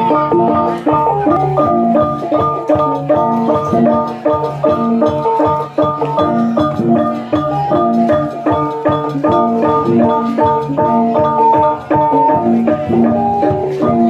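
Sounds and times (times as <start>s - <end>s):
tuned percussion music: 0.0s - 14.0s.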